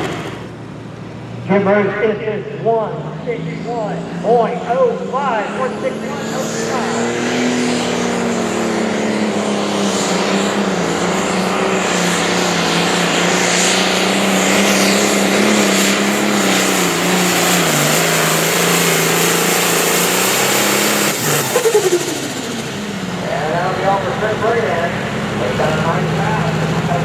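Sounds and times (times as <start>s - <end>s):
engine at full throttle: 0.0s - 27.0s.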